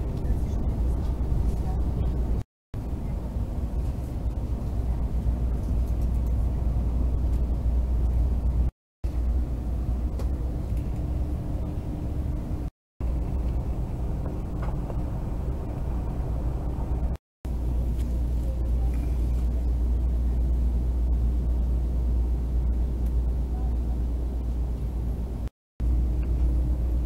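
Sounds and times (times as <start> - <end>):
train rumbling inside carriage: 0.0 - 27.0.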